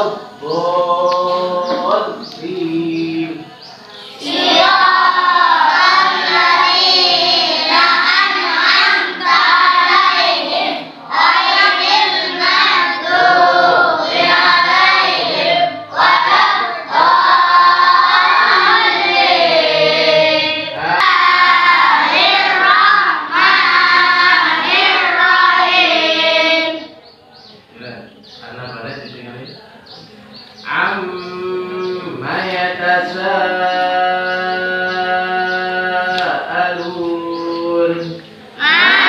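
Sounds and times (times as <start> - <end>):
children chanting in unison: 3.9 - 27.0, 30.6 - 39.0.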